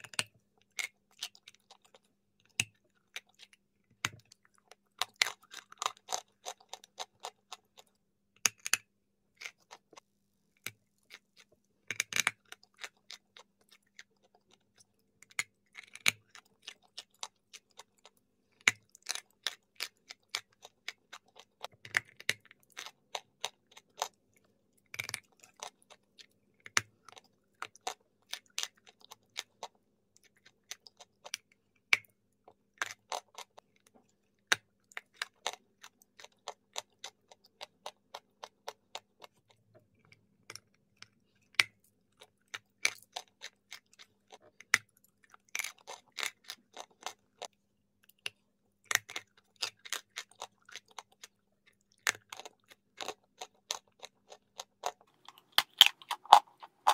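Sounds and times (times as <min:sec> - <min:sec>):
crunching and chewing chalky lump: 0:00.0 - 0:56.9.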